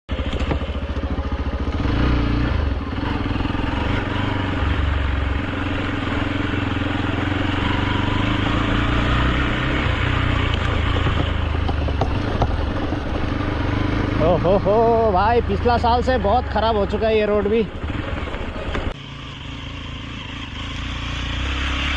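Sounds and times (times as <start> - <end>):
motorcycle engine running: 0.1 - 21.9.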